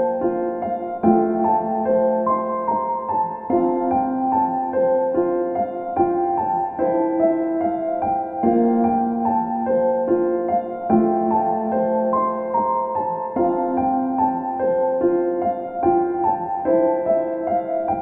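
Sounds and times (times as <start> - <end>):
gentle ambient piano music: 0.0 - 18.0.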